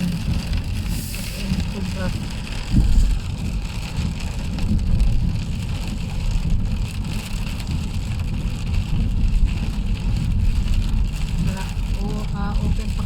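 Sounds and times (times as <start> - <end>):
car low rumble: 0.0 - 13.0
heavy rain on a car: 0.0 - 13.0.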